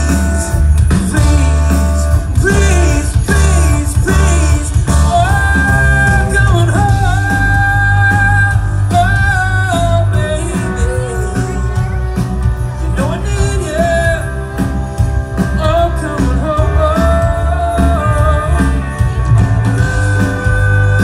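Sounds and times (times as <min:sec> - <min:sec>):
band with strong bass: 0:00.0 - 0:21.0.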